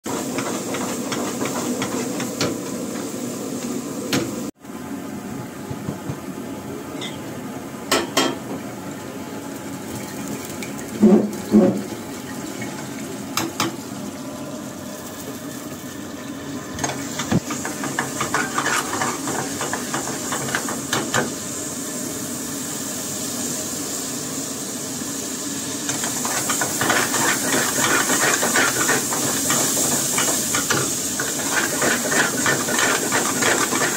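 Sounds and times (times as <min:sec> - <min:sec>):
food sizzling in pan: 0:00.0 - 0:04.6, 0:08.3 - 0:33.9.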